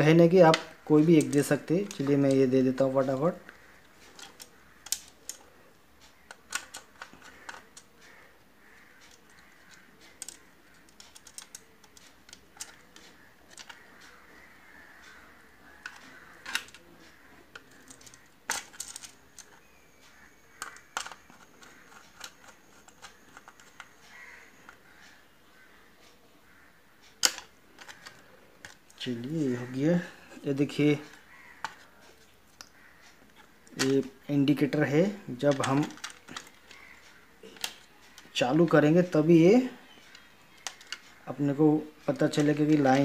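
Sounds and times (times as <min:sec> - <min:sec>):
metal clicking on plastic: 0:00.0 - 0:25.2, 0:27.0 - 0:43.0.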